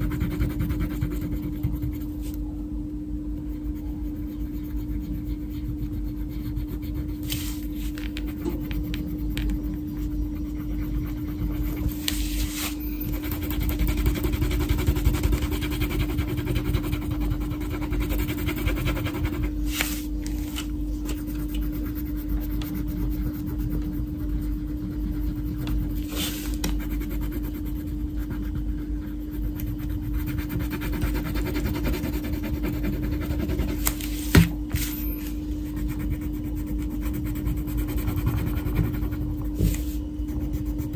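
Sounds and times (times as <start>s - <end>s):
crayon rubbing on paper: 0.0s - 2.3s, 3.4s - 34.3s, 35.7s - 40.9s
steady low hum: 0.0s - 40.9s.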